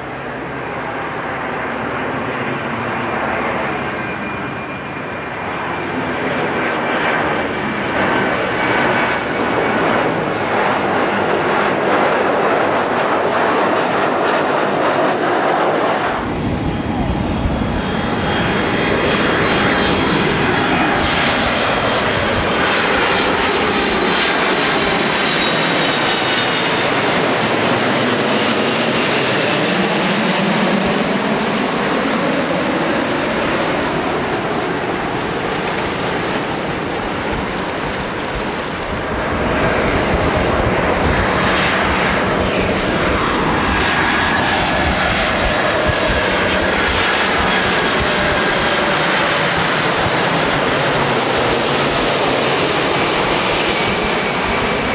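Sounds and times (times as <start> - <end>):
high jet engine whine: 0.0 - 54.9
jet airliners passing low: 0.0 - 54.9.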